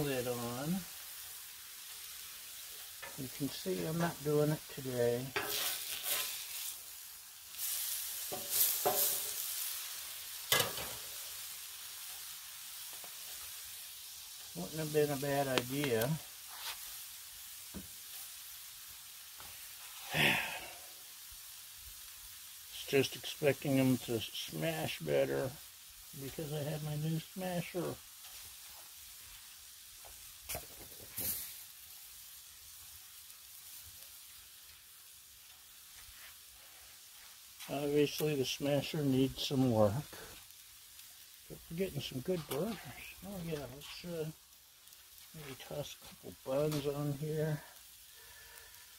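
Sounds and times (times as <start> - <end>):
burger patties sizzling on griddle: 0.0 - 48.9.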